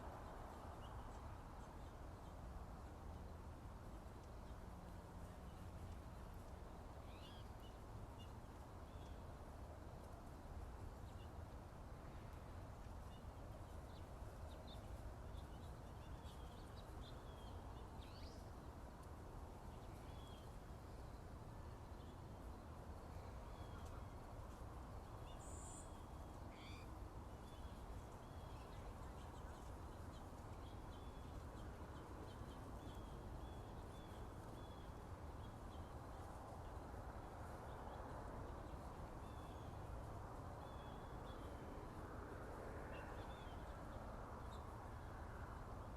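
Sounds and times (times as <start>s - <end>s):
low background hiss: 0.0s - 45.9s.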